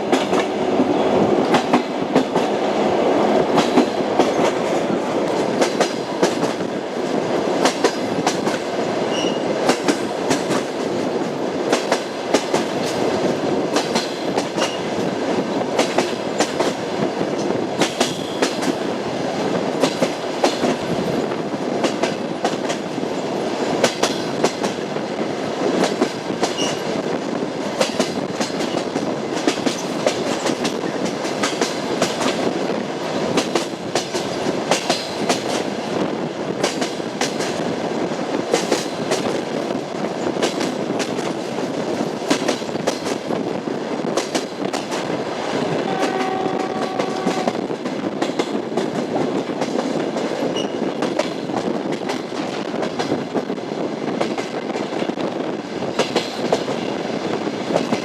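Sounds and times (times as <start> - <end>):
train wheels rolling on track: 0.0 - 58.0.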